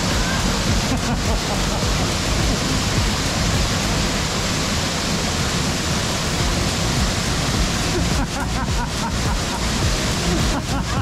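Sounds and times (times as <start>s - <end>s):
waterfall rushing onto rocks: 0.0s - 11.0s.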